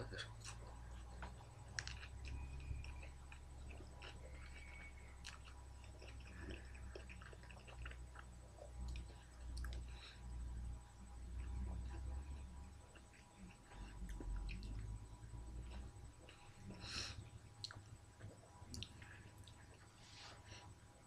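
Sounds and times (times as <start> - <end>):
steady low hum: 0.0 - 21.0
person chewing food: 0.3 - 20.8.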